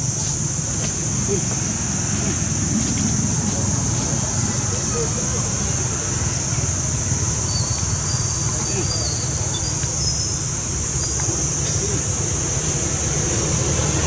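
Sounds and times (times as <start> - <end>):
insects droning in chorus: 0.0 - 14.0.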